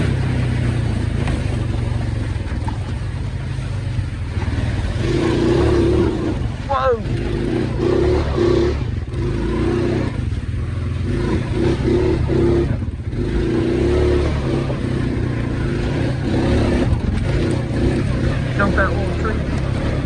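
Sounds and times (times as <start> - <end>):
atv engine revving under load: 0.0 - 20.0.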